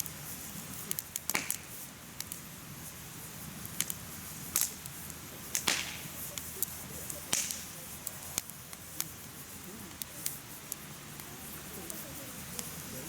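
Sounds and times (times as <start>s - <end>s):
firewood crackling and popping: 0.0s - 13.0s
hiss of flame: 0.0s - 13.0s.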